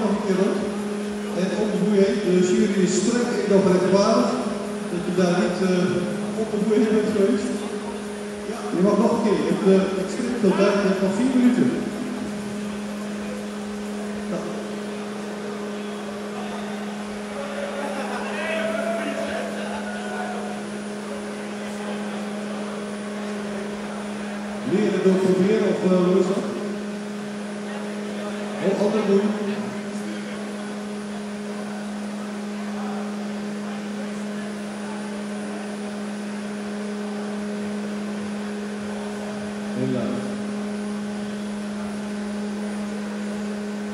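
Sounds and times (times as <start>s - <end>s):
low machine hum: 0.0s - 43.9s.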